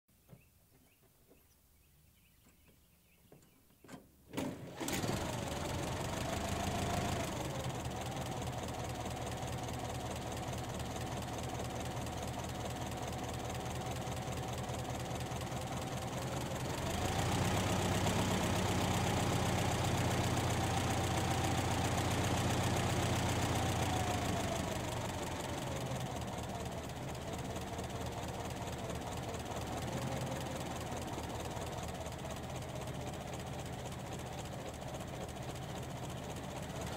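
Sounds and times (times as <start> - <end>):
car engine running: 4.8 - 36.9.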